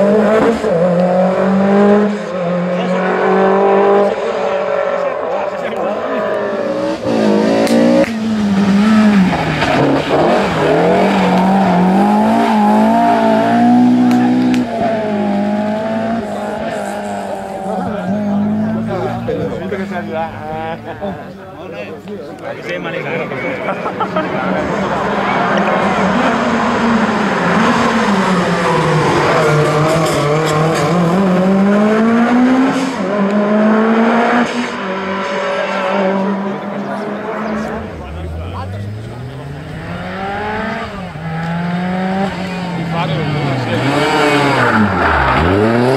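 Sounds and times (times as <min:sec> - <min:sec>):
rally car engine at high revs: 0:00.0 - 0:21.3, 0:23.5 - 0:45.9.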